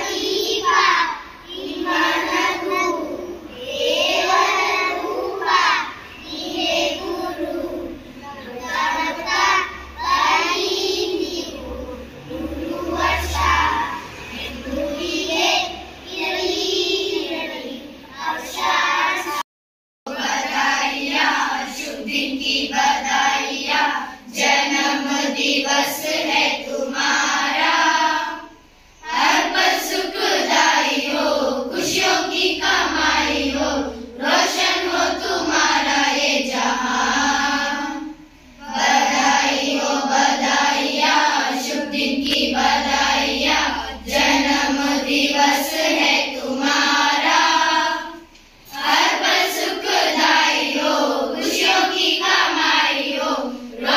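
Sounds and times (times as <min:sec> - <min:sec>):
children singing in unison: 0:00.0 - 0:19.4, 0:20.1 - 0:53.9.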